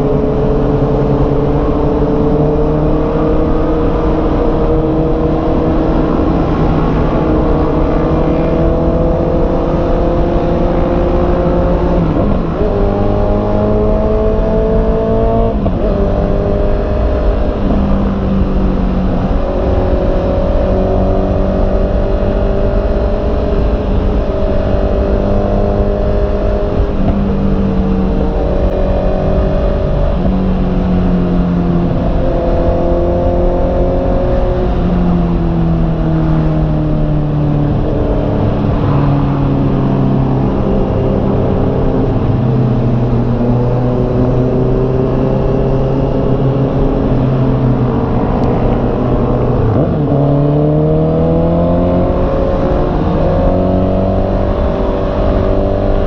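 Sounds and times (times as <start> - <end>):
motorcycle engine accelerating: 0.0 - 56.0
wind noise rumble: 0.0 - 56.0.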